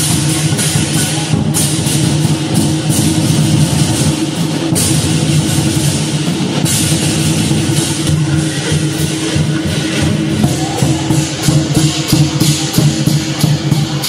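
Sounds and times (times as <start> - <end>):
cymbal crashes: 0.0 - 14.0
steady drumming: 0.0 - 14.0.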